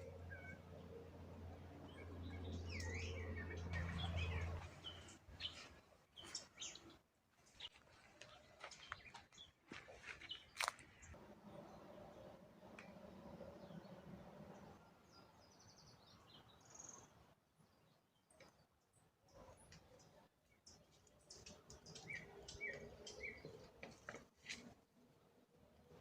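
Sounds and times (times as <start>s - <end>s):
birds chirping: 0.0s - 18.6s, 19.3s - 24.2s.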